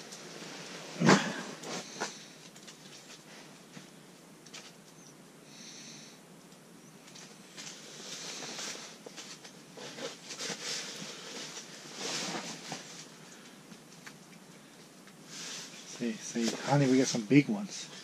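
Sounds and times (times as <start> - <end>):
rustling handling noise: 0.0 - 5.1, 7.0 - 18.0.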